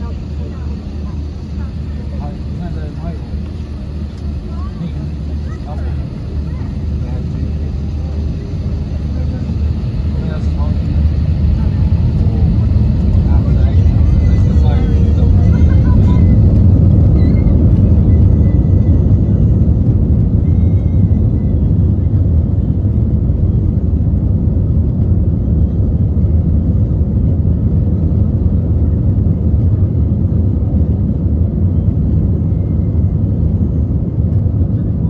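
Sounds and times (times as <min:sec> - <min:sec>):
airplane cabin low rumble: 0:00.0 - 0:35.0.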